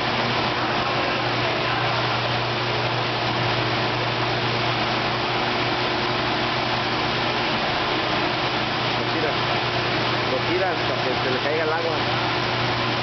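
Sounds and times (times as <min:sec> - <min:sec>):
pumps humming: 0:00.0 - 0:13.0.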